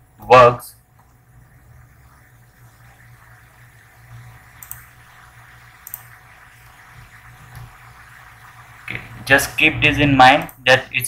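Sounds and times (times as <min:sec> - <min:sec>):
low hum and faint hiss: 0:00.0 - 0:11.0.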